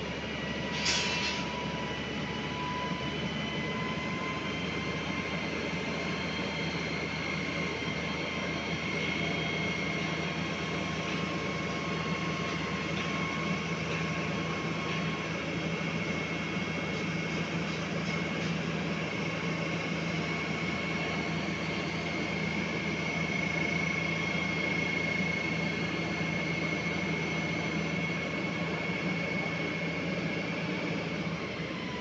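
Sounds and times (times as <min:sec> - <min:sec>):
concrete pump engine drone: 0:00.0 - 0:32.0
high steady whine: 0:00.0 - 0:32.0.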